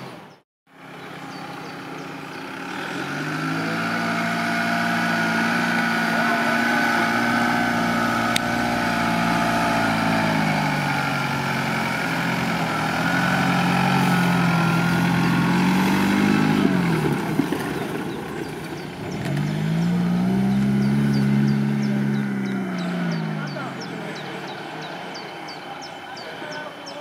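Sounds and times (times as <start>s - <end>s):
car engine running under load: 0.0s - 27.0s.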